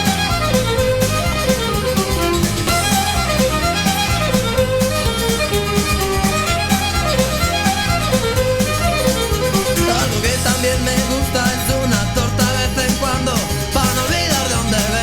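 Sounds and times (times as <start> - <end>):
instrumental band music: 0.0 - 15.0.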